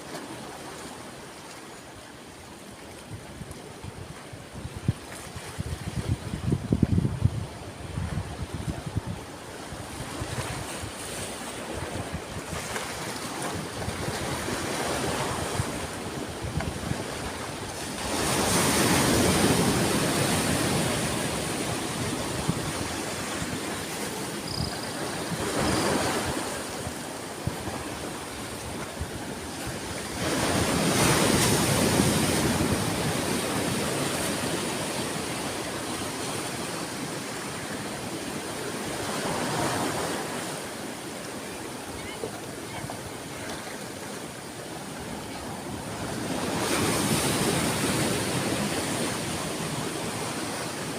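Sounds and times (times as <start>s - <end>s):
sea waves breaking: 0.0s - 50.9s.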